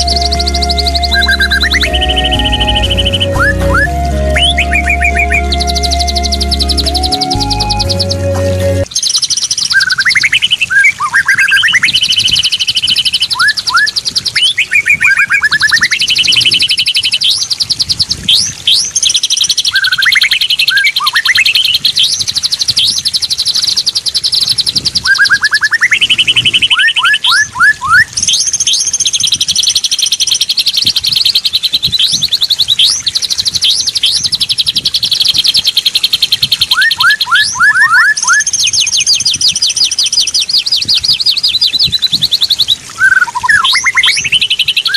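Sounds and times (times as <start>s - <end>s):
other birds chirping: 0.0s - 17.6s, 18.2s - 44.9s
bulbul song: 0.0s - 17.7s, 18.5s - 44.9s.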